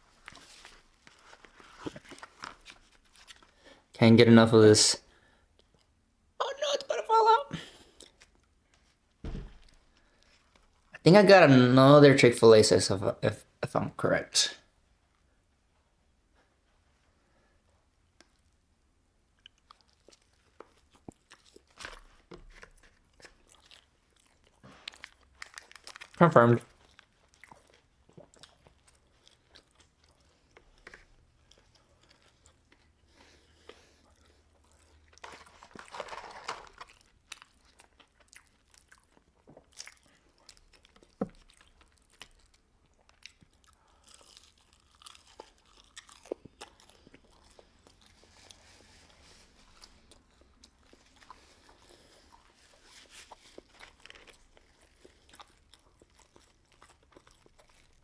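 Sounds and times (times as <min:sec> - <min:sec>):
chewing and crunching fried food: 0:00.0 - 0:11.0, 0:14.4 - 0:58.0.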